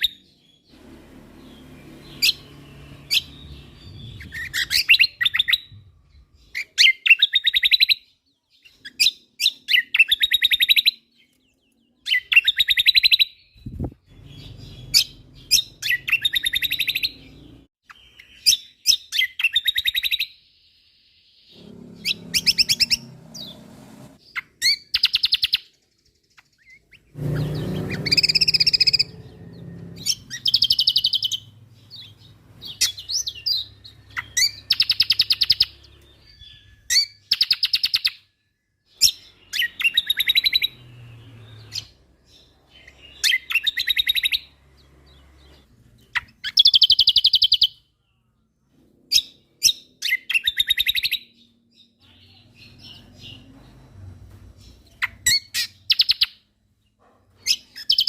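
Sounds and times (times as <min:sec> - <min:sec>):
bird singing fast chattering song: 0:00.0 - 0:23.6, 0:24.2 - 0:48.3, 0:49.1 - 0:53.8, 0:54.6 - 0:56.5, 0:57.4 - 0:58.0.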